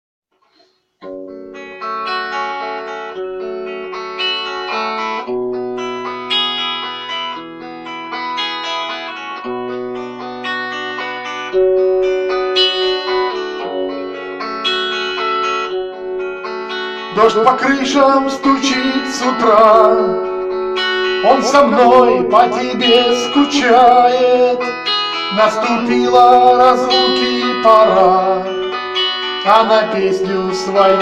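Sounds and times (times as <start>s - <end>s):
guitar chords: 0.5s - 31.0s.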